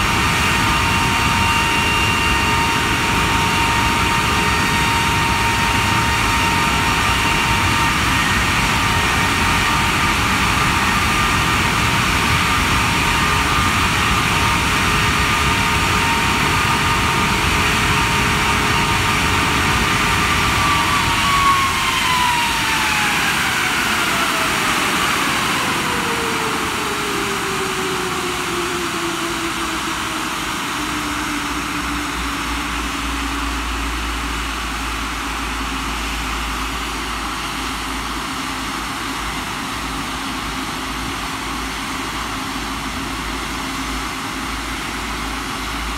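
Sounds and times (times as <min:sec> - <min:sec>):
jet engine rushing and whining: 0:00.0 - 0:45.9.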